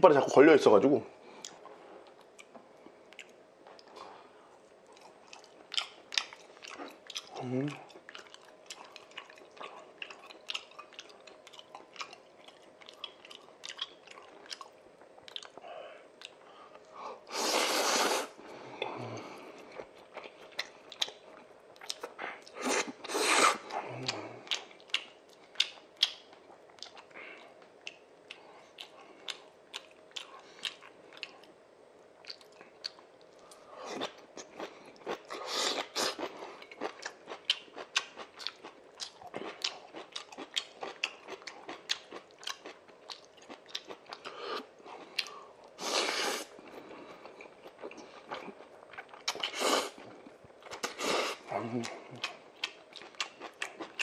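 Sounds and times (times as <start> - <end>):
wet chewing and lip smacks: 1.4 - 15.6, 16.2 - 16.9, 19.6 - 22.6, 24.1 - 45.8, 46.6 - 51.0, 51.8 - 54.0.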